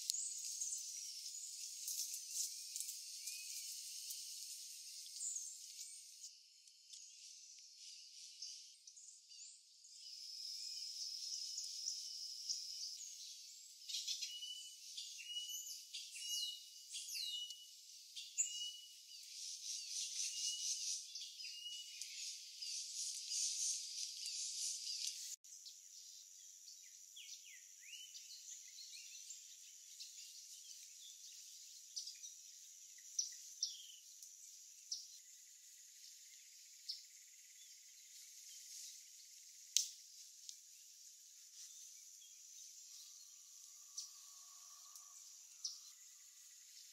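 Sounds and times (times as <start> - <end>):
bird chirps: 0.0 - 25.8, 26.7 - 40.0, 41.6 - 46.9.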